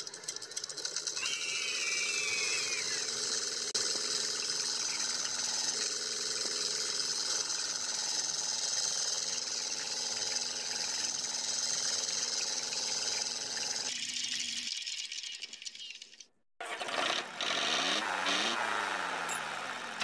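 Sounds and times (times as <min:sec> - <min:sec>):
model engine rattle and whir: 0:00.0 - 0:20.0.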